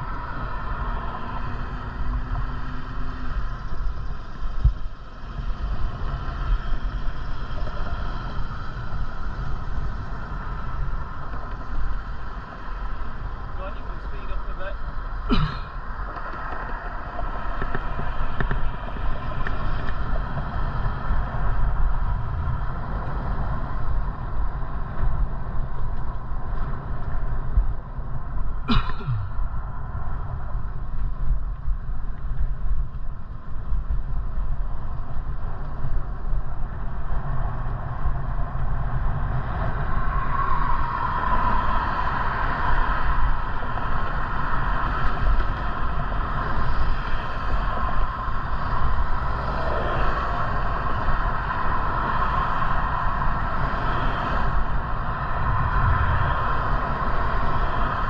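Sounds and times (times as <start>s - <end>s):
bicycle road rumble: 0.0s - 58.0s
wind: 0.0s - 58.0s.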